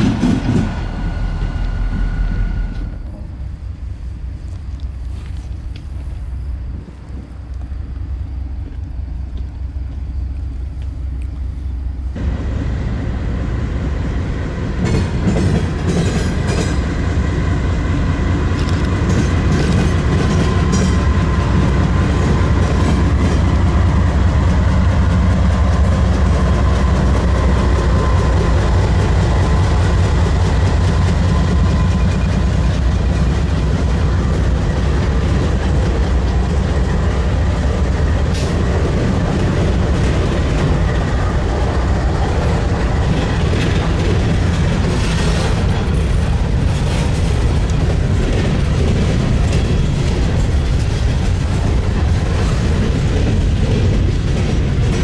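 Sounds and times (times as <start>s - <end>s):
train wheels clattering over crossing: 0.0s - 3.8s, 12.2s - 55.0s
freight train rumble: 0.0s - 55.0s.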